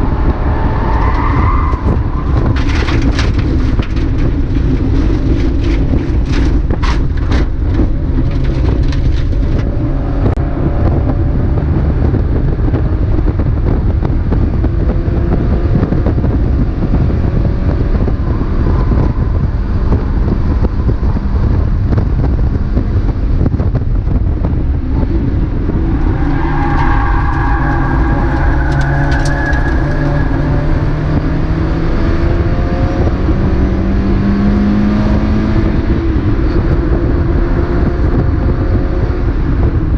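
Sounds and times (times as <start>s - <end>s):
race car engine revving: 0.0s - 39.8s
road and wind noise: 0.0s - 39.9s.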